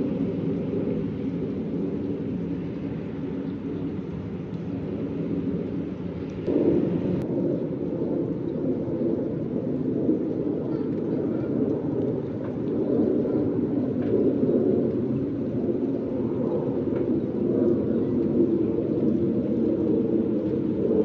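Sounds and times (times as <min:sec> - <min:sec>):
wind rumbling across microphone: 0:00.0 - 0:21.0.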